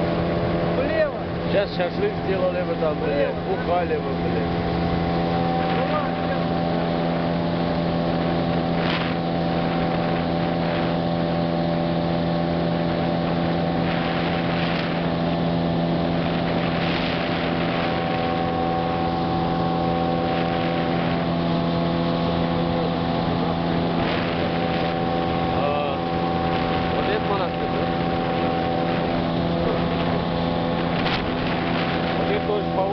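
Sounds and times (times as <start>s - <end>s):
motorboat engine running: 0.0s - 32.9s
water rushing: 0.0s - 32.9s
wind on the microphone: 0.0s - 32.9s.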